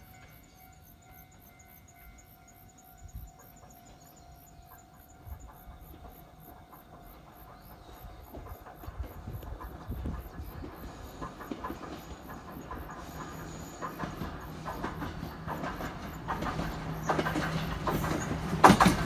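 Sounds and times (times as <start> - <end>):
electric train rumble and rail clicks: 0.0 - 19.0
insects chirping: 0.0 - 19.0.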